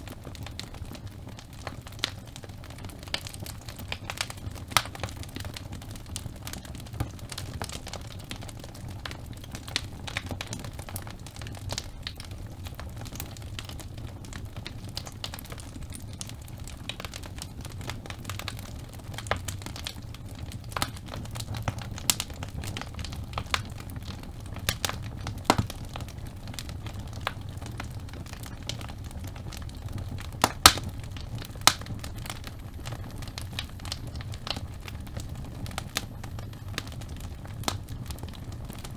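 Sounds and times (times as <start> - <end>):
fire crackling and popping: 0.0 - 38.9
fire rumbling: 0.0 - 38.9.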